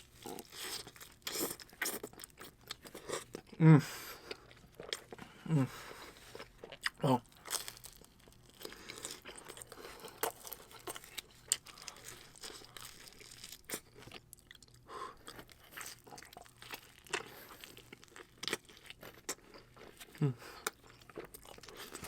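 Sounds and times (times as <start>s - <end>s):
chewing crunchy pizza crust: 0.0s - 22.0s.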